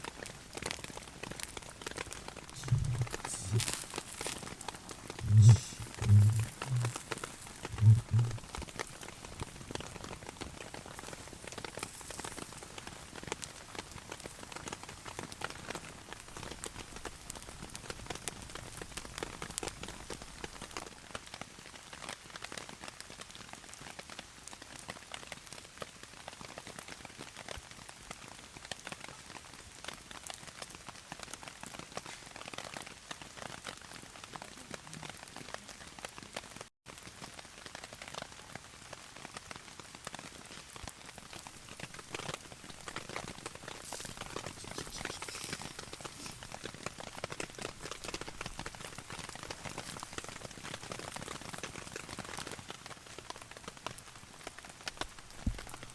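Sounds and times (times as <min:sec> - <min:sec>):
heavy rain on a tarp: 0:00.0 - 0:55.9.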